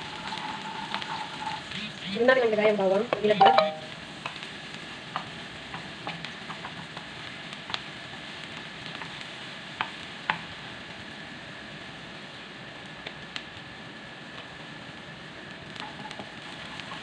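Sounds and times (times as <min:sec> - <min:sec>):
onion sizzling in oil: 0:00.0 - 0:17.0.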